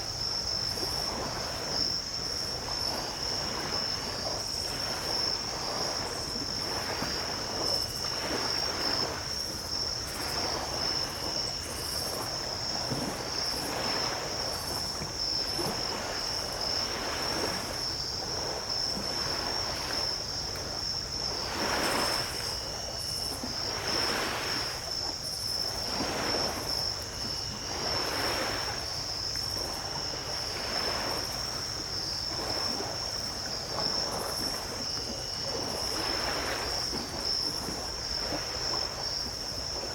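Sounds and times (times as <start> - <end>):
night insects droning: 0.0 - 39.9
small waves washing onto beach: 0.0 - 39.9.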